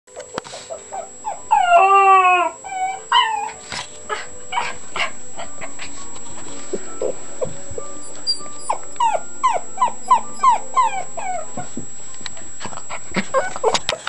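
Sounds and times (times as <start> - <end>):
puppy whining: 0.1 - 14.0
breathy noisy bursts: 2.6 - 14.0.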